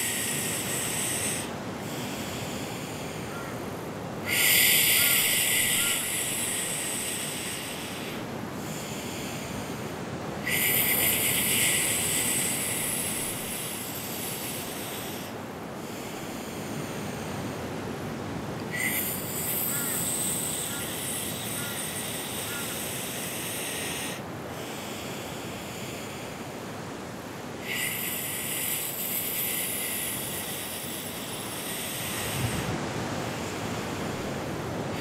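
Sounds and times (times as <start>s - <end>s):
woman hissing inhales: 0.0s - 3.4s, 4.2s - 17.3s, 18.7s - 26.4s, 27.6s - 32.7s.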